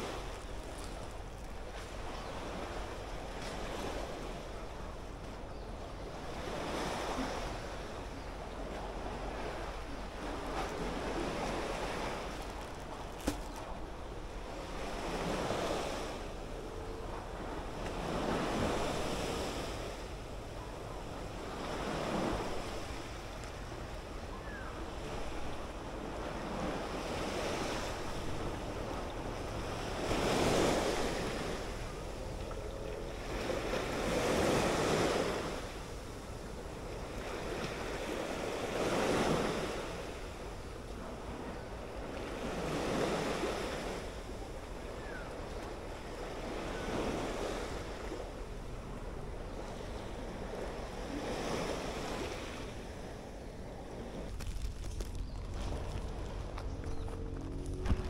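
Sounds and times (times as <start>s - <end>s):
waves washing onto shore: 0.0s - 58.0s.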